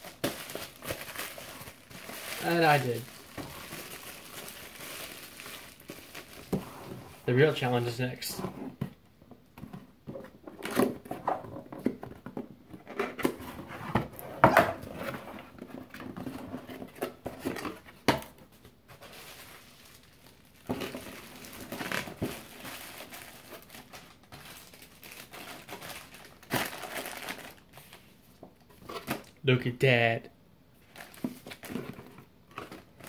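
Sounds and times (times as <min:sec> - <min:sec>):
packaging crinkling and rustling: 0:00.0 - 0:08.2, 0:12.8 - 0:29.4, 0:30.8 - 0:33.0.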